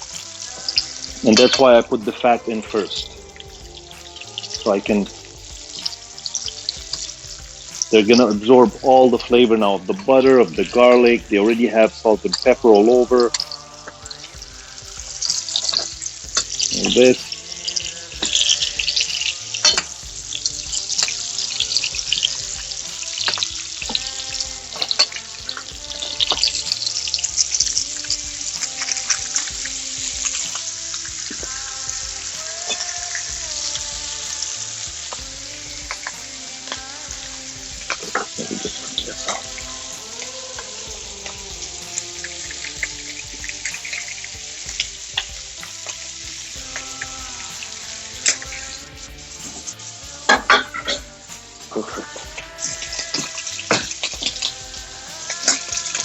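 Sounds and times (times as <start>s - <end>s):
steaks sizzling in a pan: 0.0s - 56.0s.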